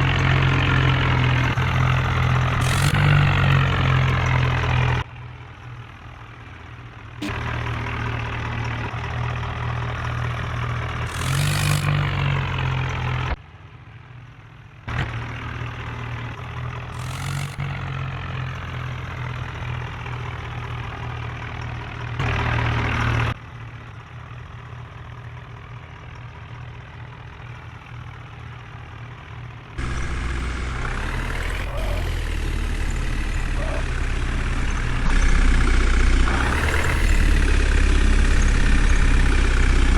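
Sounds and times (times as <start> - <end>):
heavy diesel engines revving: 0.0 - 13.4, 14.9 - 23.4, 29.5 - 39.9.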